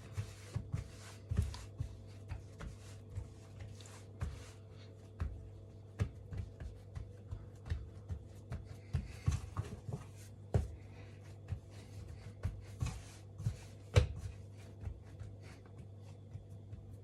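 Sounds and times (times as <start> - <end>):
dough kneading thumps: 0.0 - 17.0.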